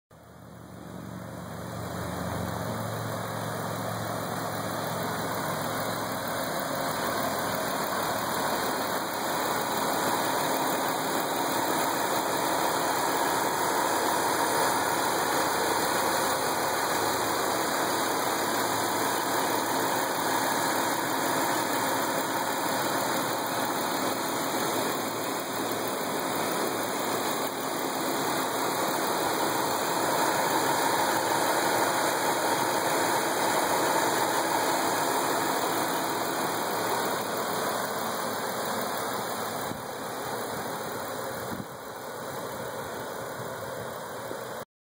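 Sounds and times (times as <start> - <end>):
car engine idling: 0.2 - 44.6.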